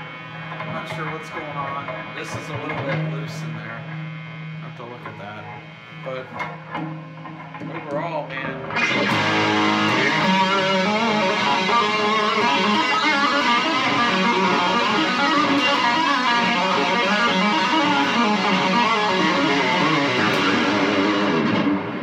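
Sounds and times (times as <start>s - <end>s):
distorted electric guitar lead: 0.0s - 22.0s.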